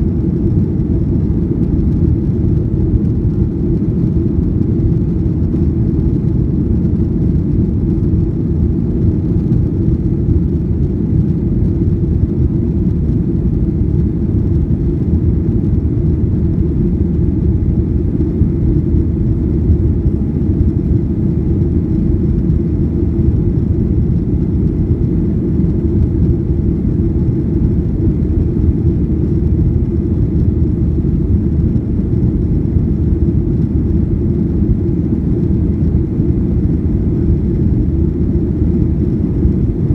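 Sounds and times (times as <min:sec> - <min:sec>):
jet engine low rumble: 0:00.0 - 0:39.9.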